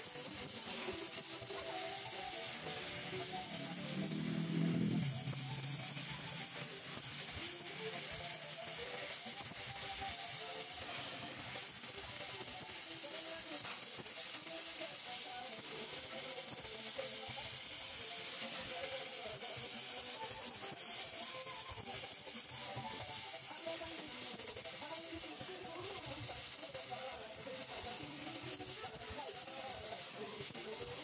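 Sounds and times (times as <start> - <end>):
background music: 0.0 - 31.0
welding torch flame hissing: 0.0 - 31.0.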